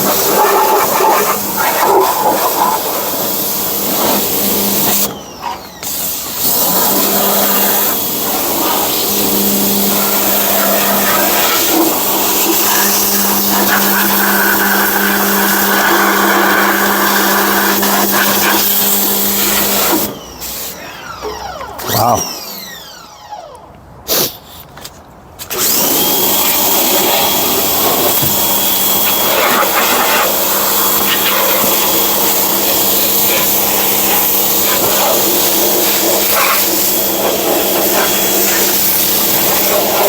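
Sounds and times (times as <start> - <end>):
pressure washer running: 0.0 - 23.4, 25.5 - 40.0.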